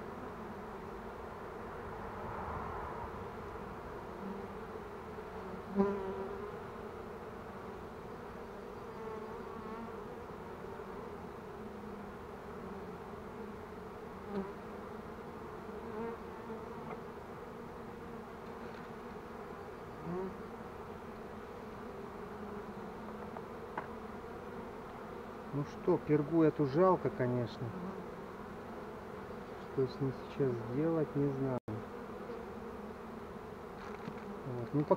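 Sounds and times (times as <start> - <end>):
honeybees buzzing: 0.0 - 34.9.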